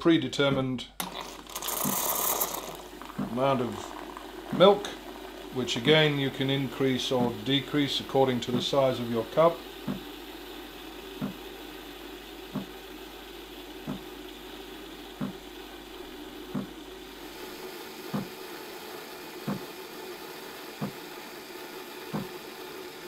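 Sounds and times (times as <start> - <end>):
coffee machine frothing milk: 1.0 - 23.0.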